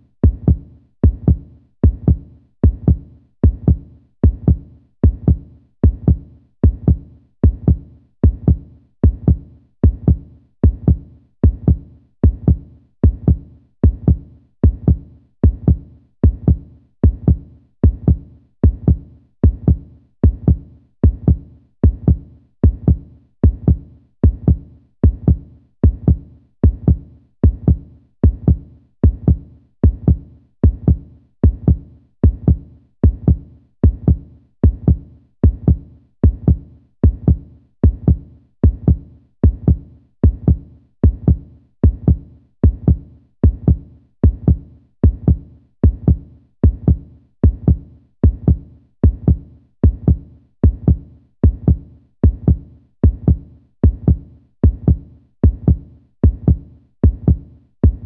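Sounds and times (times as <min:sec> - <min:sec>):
heartbeat thumps: 0:00.2 - 0:58.0.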